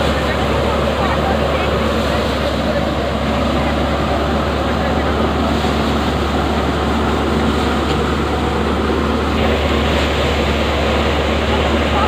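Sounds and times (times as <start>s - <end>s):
thresher and tractor engine running: 0.0s - 12.0s.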